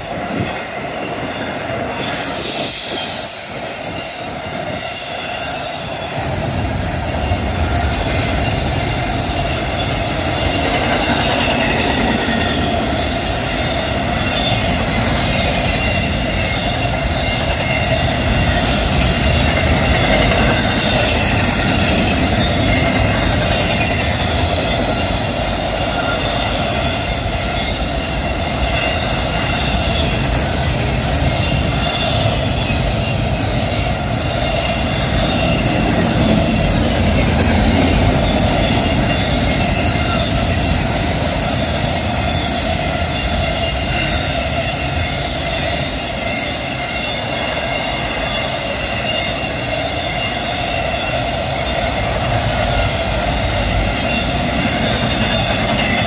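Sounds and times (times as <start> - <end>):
train wheels rumbling on rail: 0.0 - 56.0
high ringing tones: 7.1 - 56.0.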